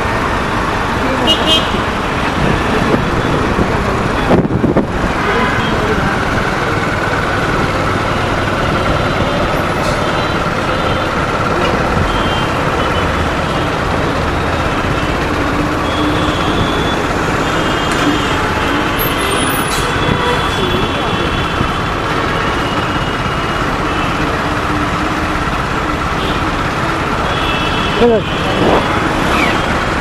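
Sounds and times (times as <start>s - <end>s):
traffic rushing: 0.0s - 30.0s
vehicle engines running: 0.0s - 30.0s.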